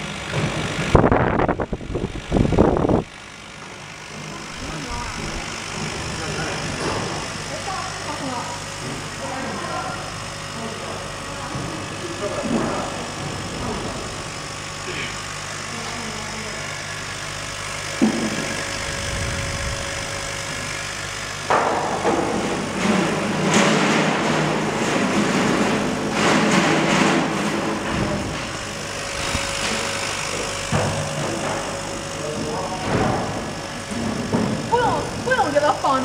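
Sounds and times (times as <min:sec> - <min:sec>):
laser cutter humming: 0:00.0 - 0:36.0.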